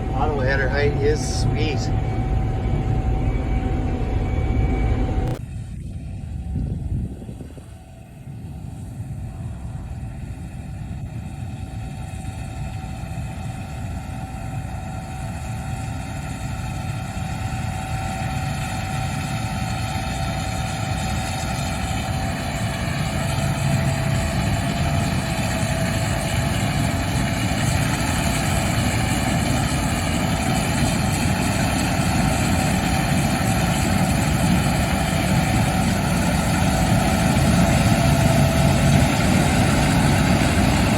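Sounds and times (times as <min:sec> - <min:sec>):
combine harvester engine drone: 0:00.0 - 0:40.9
machinery whine: 0:00.0 - 0:40.9.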